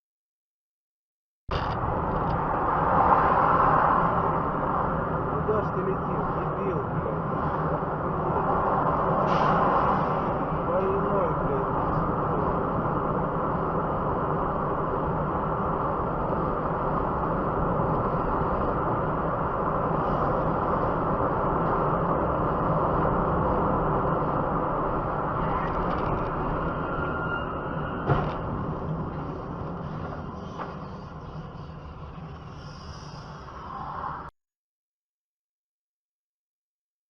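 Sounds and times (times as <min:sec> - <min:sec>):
car road and engine noise: 0:01.5 - 0:34.3.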